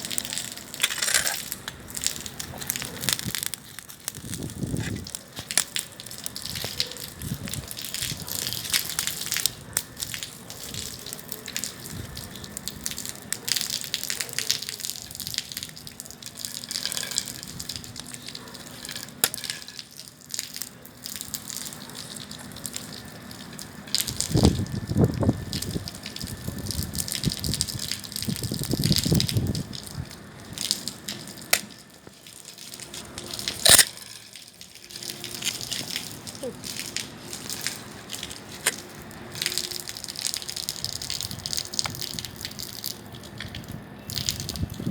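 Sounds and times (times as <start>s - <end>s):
bonfire crackling and popping: 0.0s - 44.9s.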